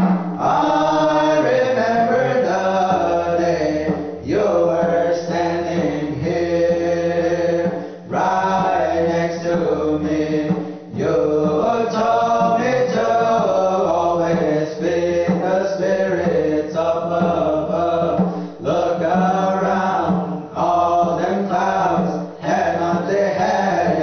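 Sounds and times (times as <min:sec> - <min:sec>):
hand drum beating: 0:00.0 - 0:24.0
men singing a chant: 0:00.0 - 0:24.0.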